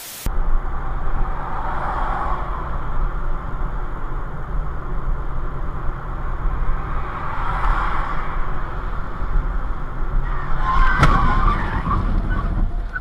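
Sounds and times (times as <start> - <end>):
car road noise: 0.0 - 13.0.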